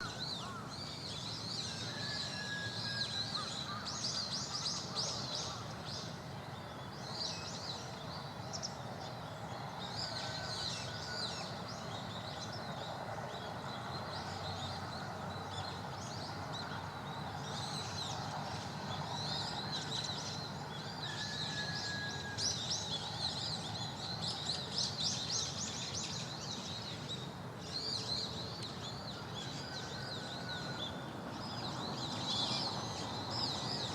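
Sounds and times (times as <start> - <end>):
birds chirping and twittering: 0.0 - 33.9
outdoor background noise: 0.0 - 33.9.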